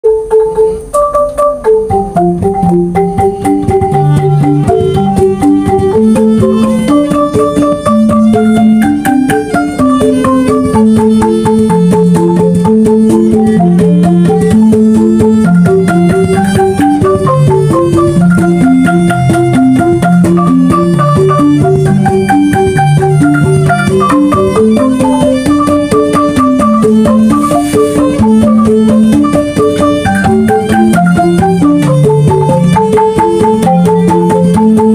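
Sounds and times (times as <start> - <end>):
bamboo angklung ensemble playing: 0.0 - 34.9.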